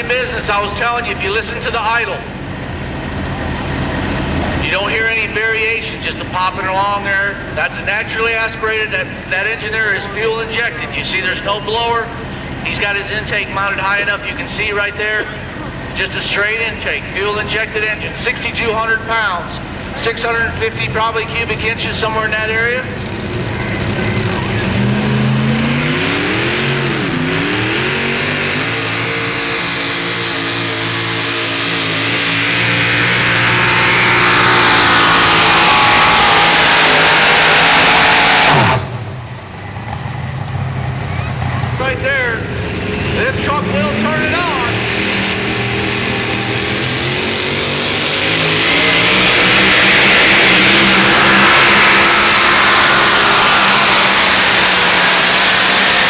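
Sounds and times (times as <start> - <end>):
truck engine running hard: 0.0 - 56.0.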